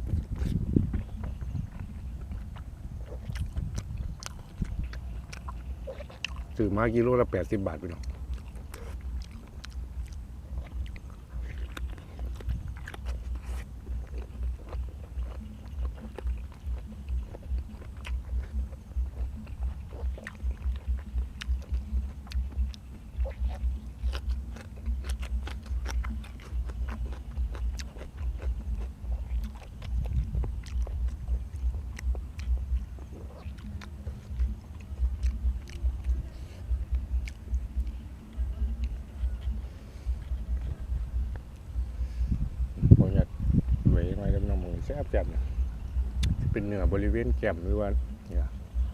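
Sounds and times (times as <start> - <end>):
wet mouth clicks: 0.0 - 6.7, 7.7 - 42.4, 45.9 - 46.5
person chewing food: 0.0 - 43.0, 45.5 - 46.5
low pulsing rumble: 0.0 - 48.9.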